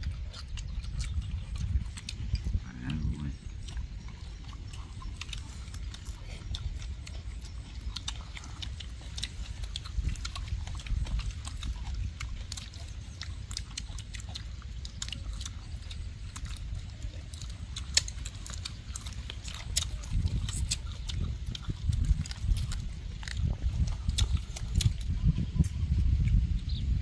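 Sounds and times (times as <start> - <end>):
people chewing and lip-smacking: 0.0 - 27.0
steady low rumble: 0.0 - 27.0.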